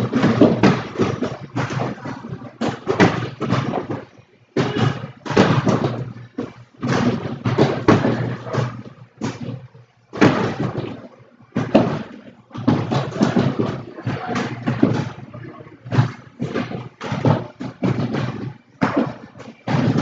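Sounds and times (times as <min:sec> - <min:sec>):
strikes on punching bags: 0:00.0 - 0:20.0.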